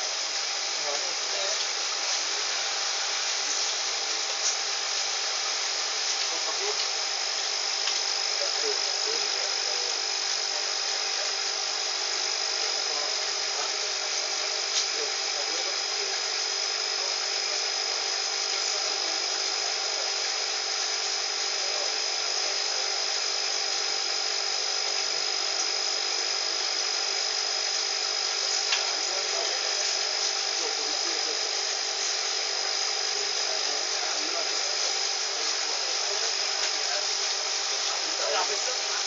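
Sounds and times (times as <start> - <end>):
aquarium pump whirring: 0.0 - 39.0.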